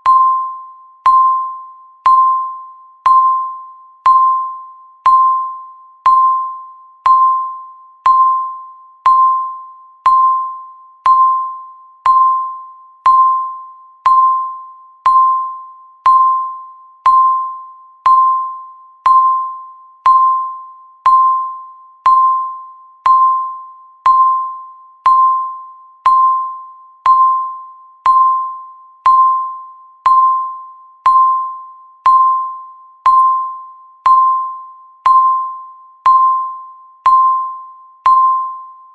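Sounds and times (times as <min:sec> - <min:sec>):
timer beeps: 0:00.0 - 0:38.9.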